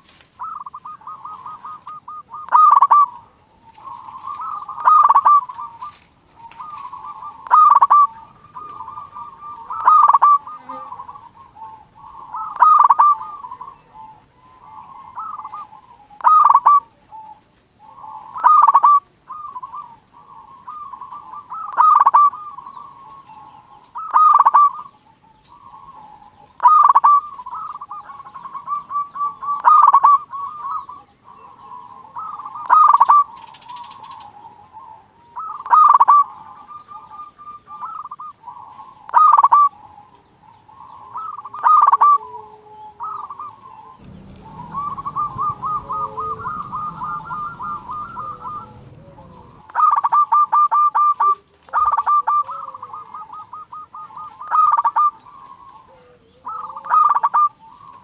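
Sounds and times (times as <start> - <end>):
dove cooing: 0.0 - 58.0.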